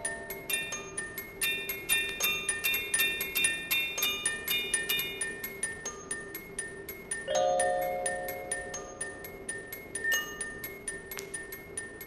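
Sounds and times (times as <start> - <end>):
music box melody: 0.0 - 12.0.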